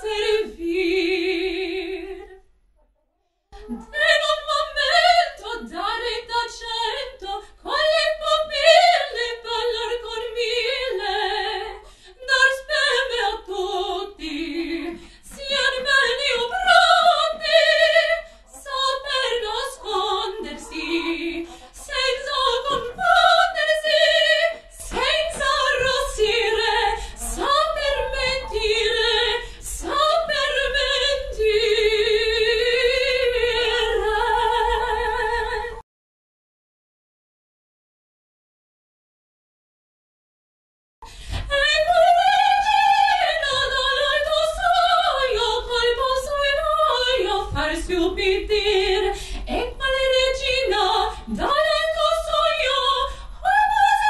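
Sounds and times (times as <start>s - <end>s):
woman singing opera: 0.0s - 2.4s, 3.6s - 35.8s, 41.2s - 54.0s.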